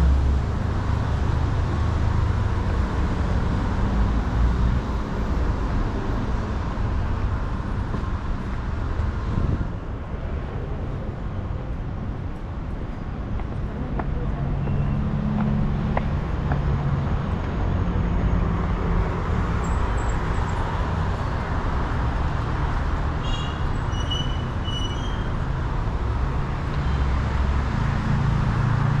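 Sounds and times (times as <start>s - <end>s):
cars passing on road: 0.0s - 29.0s.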